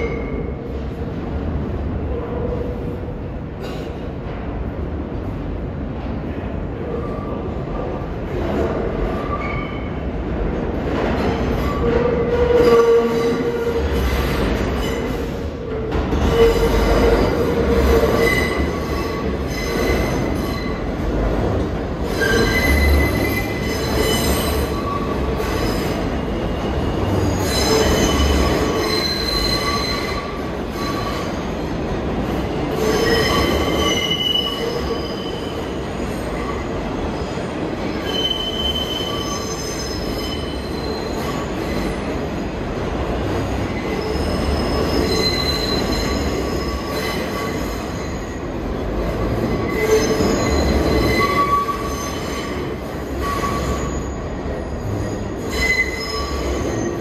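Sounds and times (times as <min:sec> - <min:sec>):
train wheels squealing on rails: 0:00.0 - 0:04.1, 0:06.3 - 0:57.0
train rumble: 0:00.0 - 0:57.0.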